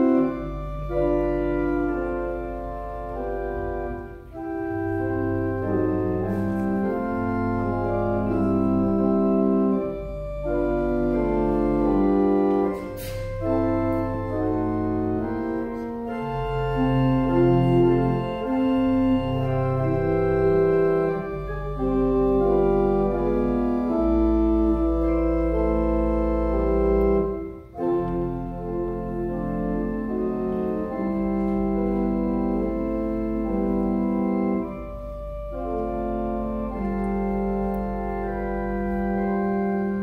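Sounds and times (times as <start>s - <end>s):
organ playing sustained chords: 0.0s - 40.0s.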